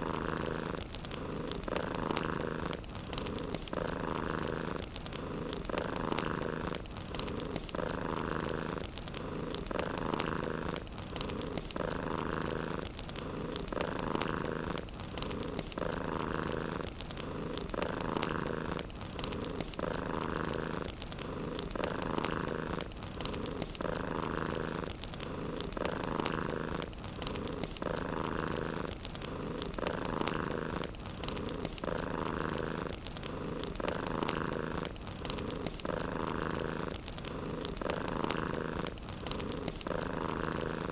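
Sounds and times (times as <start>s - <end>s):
cat purring: 0.0s - 40.9s
fireplace crackling: 0.0s - 40.9s.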